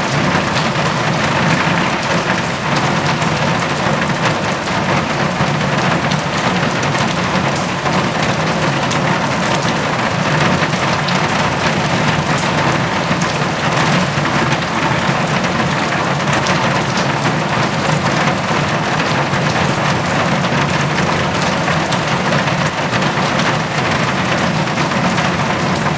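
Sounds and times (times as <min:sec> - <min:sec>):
heavy rain on a metal roof: 0:00.0 - 0:25.9.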